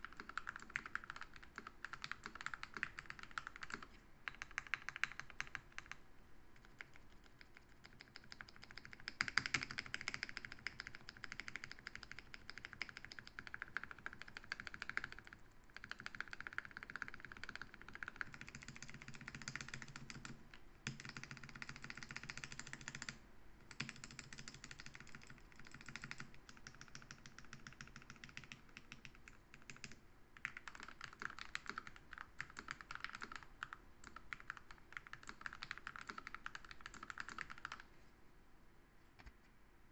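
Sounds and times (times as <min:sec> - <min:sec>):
mechanical keyboard typing: 0:00.0 - 0:06.0, 0:06.6 - 0:37.9.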